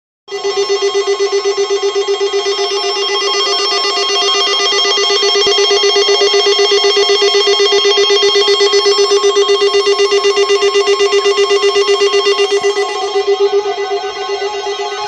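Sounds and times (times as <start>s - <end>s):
buzzy pulsing alert tone: 0.3s - 15.0s.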